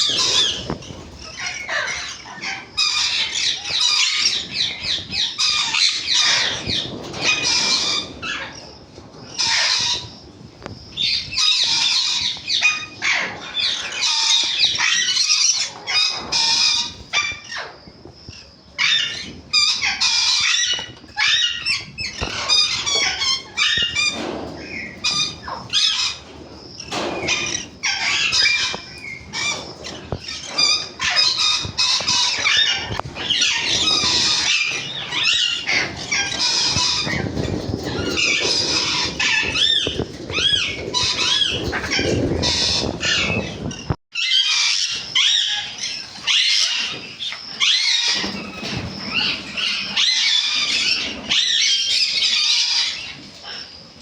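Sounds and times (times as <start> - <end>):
parrots screeching and squawking: 0.0 - 10.3, 10.9 - 53.9.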